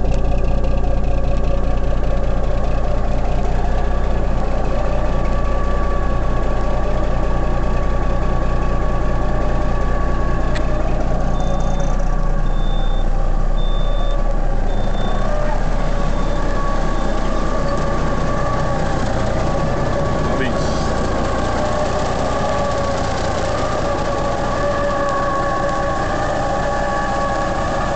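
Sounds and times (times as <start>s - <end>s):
diesel truck engine idling: 0.0s - 27.9s.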